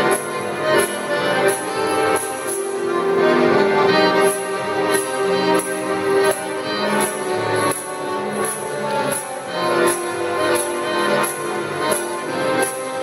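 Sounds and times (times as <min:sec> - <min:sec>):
accordion ensemble playing: 0:00.0 - 0:13.0.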